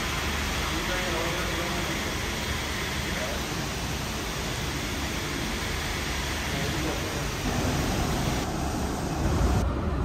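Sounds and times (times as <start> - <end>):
heavy rain hissing: 0.0 - 9.6.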